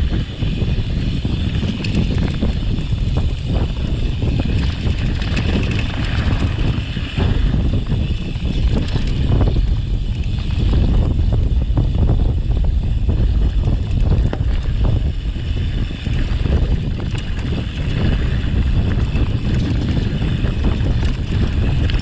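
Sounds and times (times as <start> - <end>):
bike rattling over stones: 0.0 - 22.0
wind buffeting microphone: 0.0 - 22.0.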